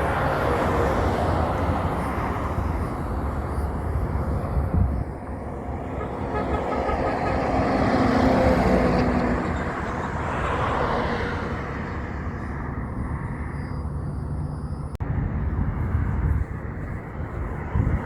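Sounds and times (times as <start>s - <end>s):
truck driving past: 0.0s - 17.9s
road rumble: 0.0s - 18.0s.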